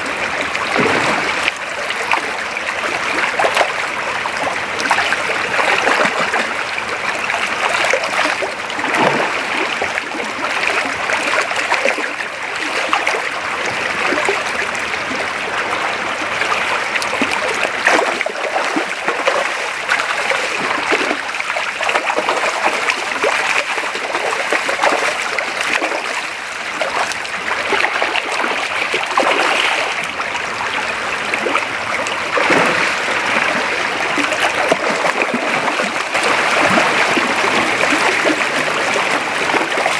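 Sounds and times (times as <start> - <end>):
water splashing: 0.0 - 6.6, 7.2 - 13.3, 16.4 - 39.9
creek water flowing: 0.0 - 39.9.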